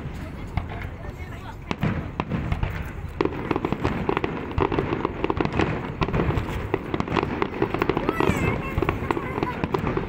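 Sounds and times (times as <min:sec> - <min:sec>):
fireworks bangs and crackle: 0:00.0 - 0:10.0.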